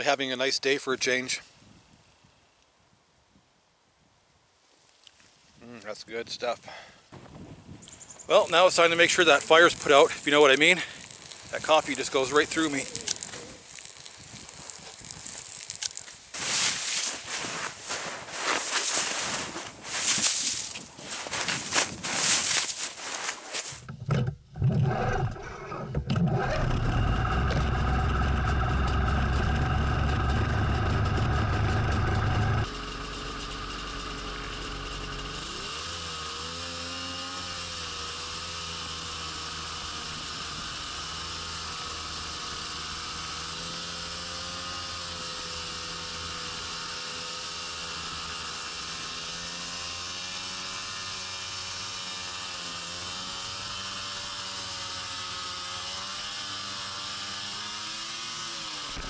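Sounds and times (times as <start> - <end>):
snowmobile engine running: 8.3 - 23.8, 26.1 - 59.0.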